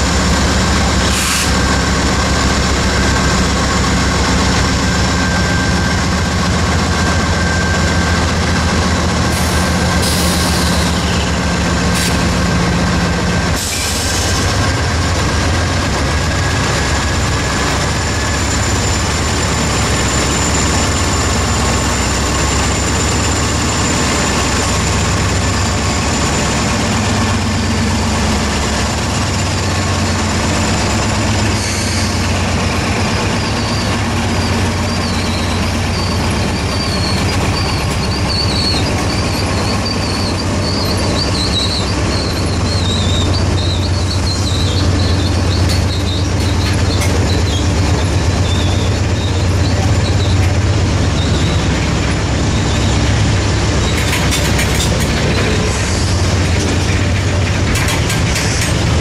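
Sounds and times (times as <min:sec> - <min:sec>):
diesel locomotive engine drone: 0:00.0 - 0:59.0
steel wheels rumbling on rail: 0:00.0 - 0:59.0.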